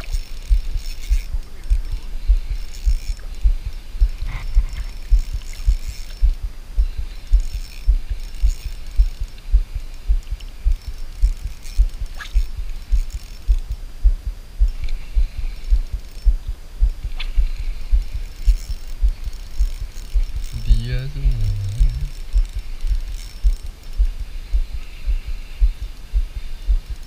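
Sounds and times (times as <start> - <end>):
faint clicks: 0.0 - 13.9, 14.6 - 27.0
fishing reel handling thumps: 0.0 - 27.0.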